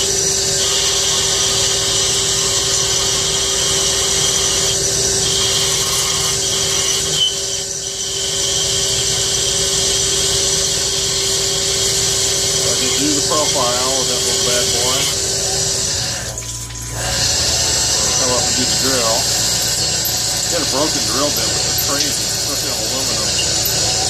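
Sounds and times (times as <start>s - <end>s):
lathe cutting aluminum: 0.0s - 24.0s.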